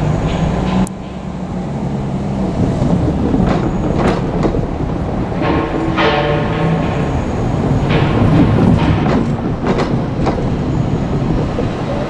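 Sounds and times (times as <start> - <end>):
train wheels clacking on rails: 0.0 - 12.0.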